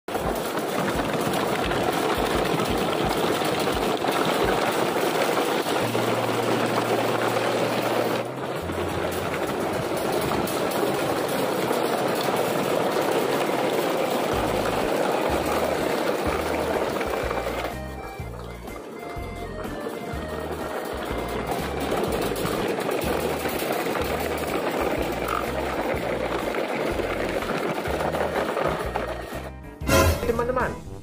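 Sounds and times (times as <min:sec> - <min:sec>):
toy wheels rattling over gravel: 0:00.1 - 0:29.7.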